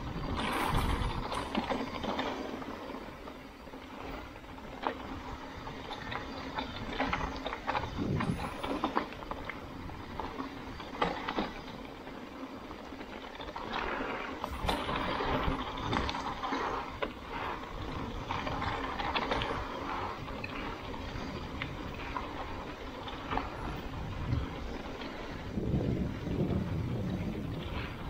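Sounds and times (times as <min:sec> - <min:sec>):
bike clicks and rattles: 0:00.0 - 0:28.0
bike tyres hissing over dirt: 0:00.0 - 0:28.0
wind rumble on microphone: 0:00.0 - 0:28.0.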